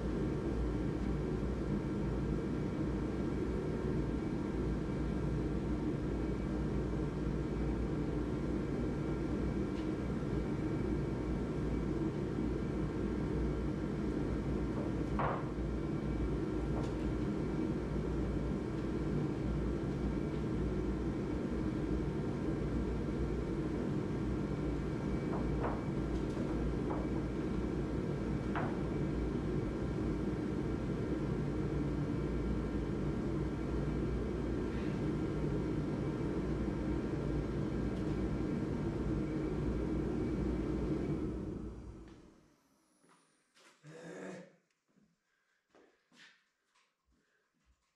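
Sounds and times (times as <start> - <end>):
low mechanical drone: 0.0 - 42.4
faint tonal hum: 0.0 - 43.2.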